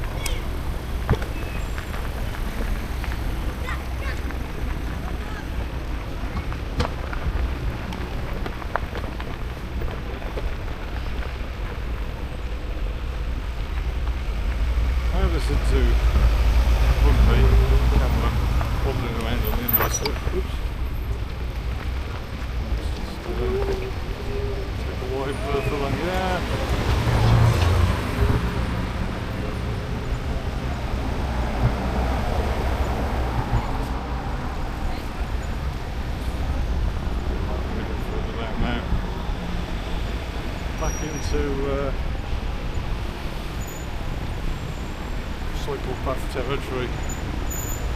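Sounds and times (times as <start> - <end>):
wind buffeting microphone: 0.0 - 46.0
tyre and road noise: 0.0 - 47.9.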